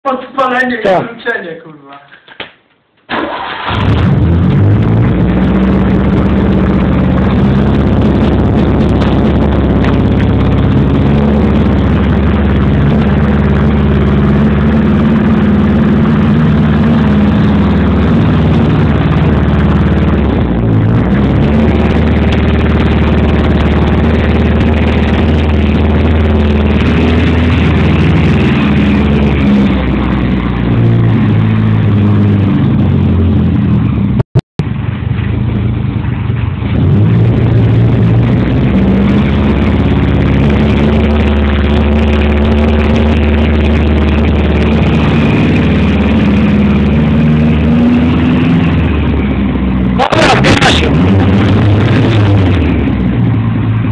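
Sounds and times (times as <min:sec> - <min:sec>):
car engine idling and revving: 0:03.3 - 0:53.9.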